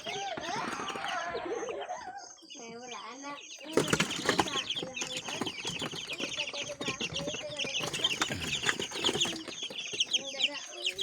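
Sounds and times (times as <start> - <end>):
chickens clucking and calling: 0.0 - 11.0.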